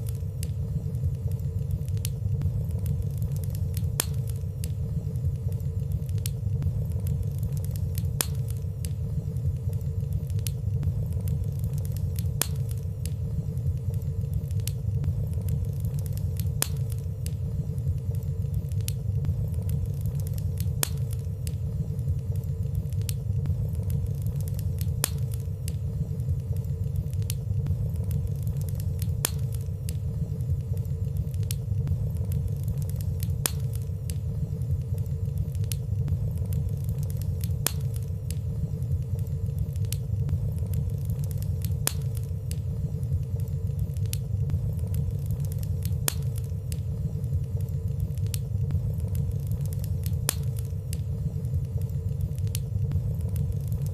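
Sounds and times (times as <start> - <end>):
fire burning: 0.0 - 53.9
fire crackling ticks: 0.0 - 53.9.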